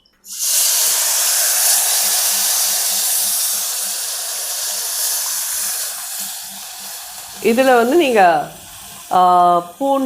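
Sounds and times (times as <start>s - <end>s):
liquid sizzling in hot oil: 0.2s - 10.0s.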